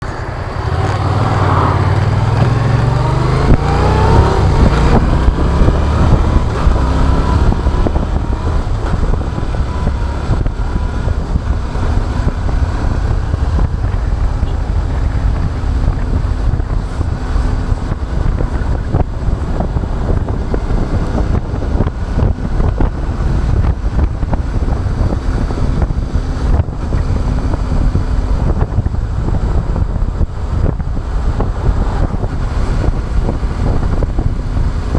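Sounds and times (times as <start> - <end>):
motorcycle engine accelerating: 0.0 - 34.9
wind noise on microphone: 0.0 - 34.9.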